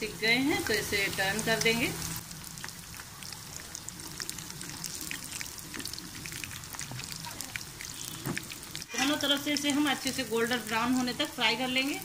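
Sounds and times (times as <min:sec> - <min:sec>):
oil sizzling and popping: 0:00.0 - 0:12.0.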